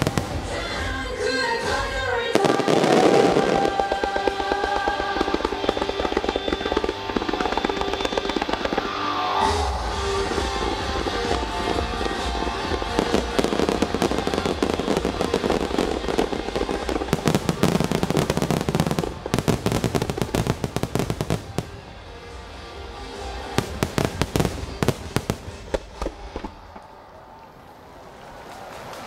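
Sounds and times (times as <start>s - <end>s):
fireworks bangs and crackles: 0.0s - 27.1s
music: 0.0s - 27.1s.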